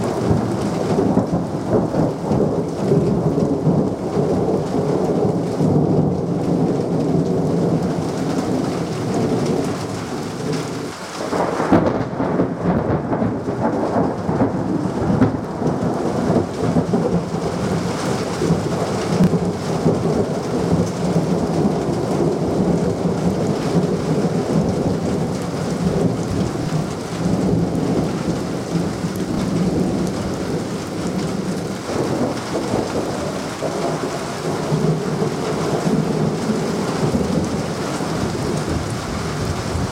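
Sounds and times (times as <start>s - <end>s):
heavy rain falling: 0.0s - 39.9s
thunder rumbling: 0.0s - 39.9s.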